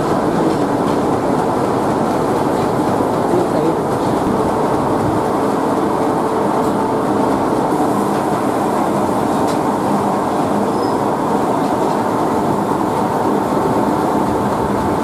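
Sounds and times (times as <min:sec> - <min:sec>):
machinery running: 0:00.0 - 0:15.0.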